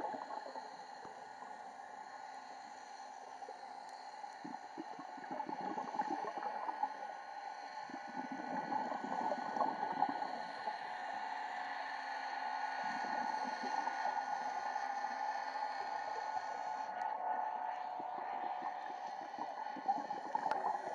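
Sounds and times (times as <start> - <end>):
underwater crackling and bubbling: 0.0 - 1.8, 3.3 - 11.8, 12.4 - 20.9
underwater hum with held tones: 0.0 - 20.9.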